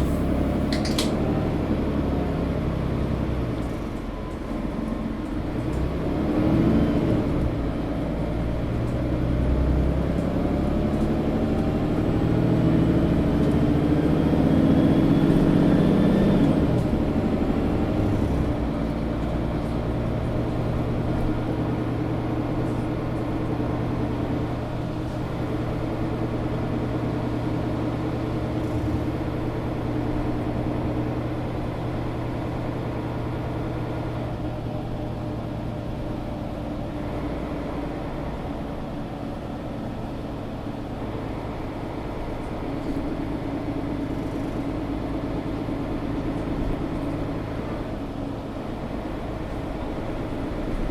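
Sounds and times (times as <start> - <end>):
bus engine whine: 0.0 - 50.9.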